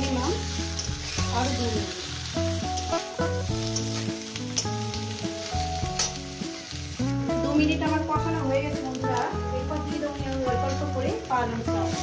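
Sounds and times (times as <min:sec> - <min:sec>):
background music: 0:00.0 - 0:12.0
food sizzling in oil: 0:00.0 - 0:12.0.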